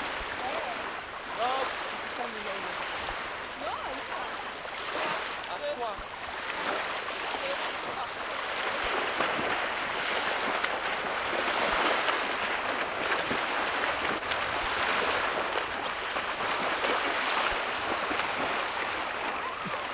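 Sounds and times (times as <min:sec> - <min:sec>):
swimmers splashing water: 0:00.0 - 0:19.9.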